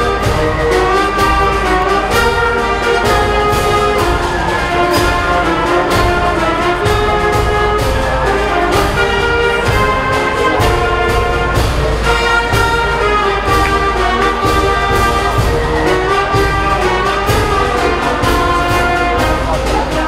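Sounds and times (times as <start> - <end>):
concert band playing: 0.0 - 20.0.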